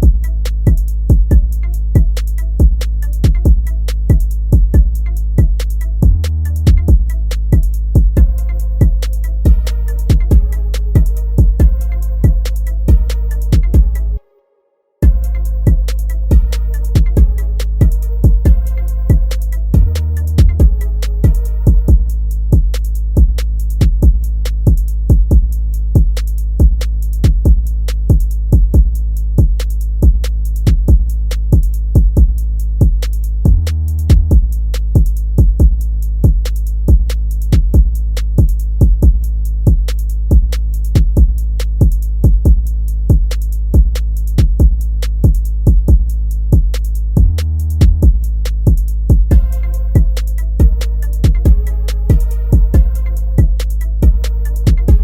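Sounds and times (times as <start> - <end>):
deep bass: 0.0 - 14.3, 15.0 - 55.0
hip-hop instrumental beat: 0.0 - 14.3, 15.0 - 55.0.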